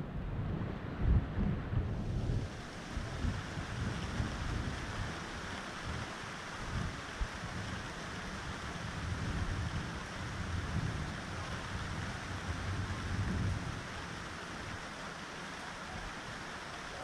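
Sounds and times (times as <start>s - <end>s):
thunder rumble: 0.0s - 14.9s
rain hiss: 0.6s - 17.0s.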